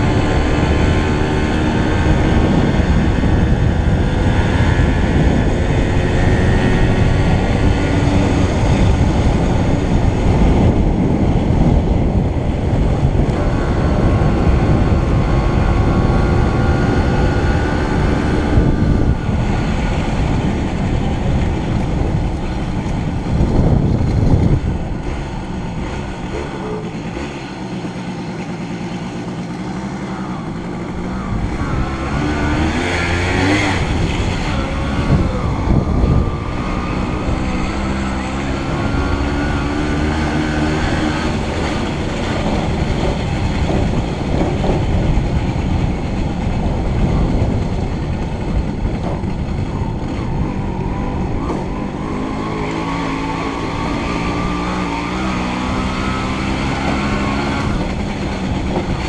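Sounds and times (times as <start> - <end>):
wheels rolling rumble on cobbles: 0.0 - 59.0
wind buffeting: 0.0 - 59.0.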